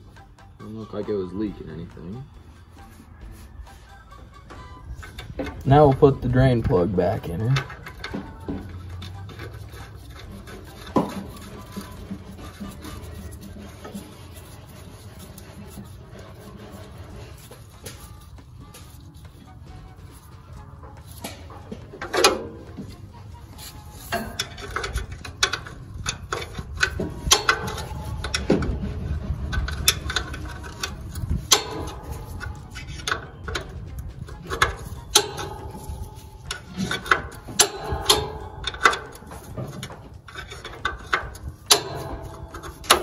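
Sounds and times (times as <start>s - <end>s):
rubbing and handling noise: 0.8s - 43.0s.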